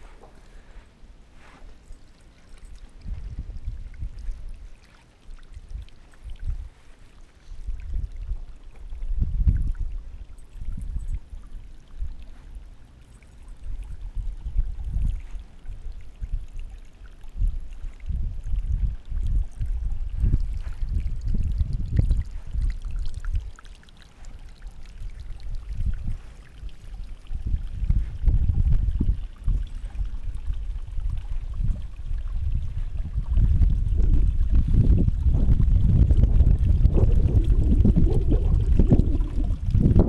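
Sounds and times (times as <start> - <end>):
wind buffeting microphone: 2.7 - 12.8, 13.4 - 40.0.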